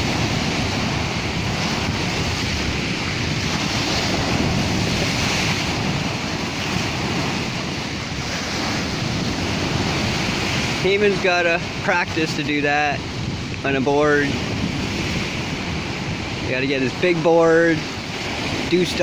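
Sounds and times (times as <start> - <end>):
small waves breaking: 0.0 - 19.0
wind buffeting microphone: 0.0 - 19.0.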